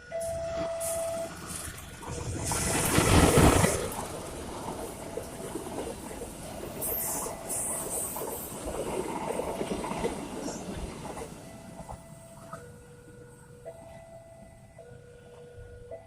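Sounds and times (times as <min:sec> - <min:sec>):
train rolling past: 0:00.0 - 0:16.0.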